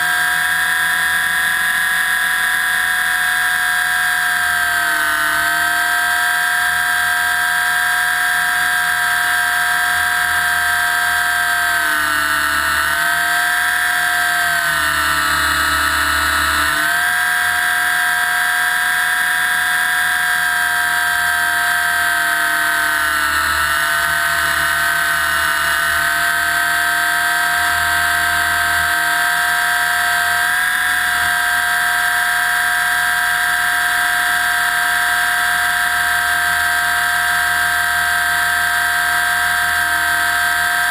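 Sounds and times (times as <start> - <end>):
rc helicopter rotor whining: 0.0 - 40.9.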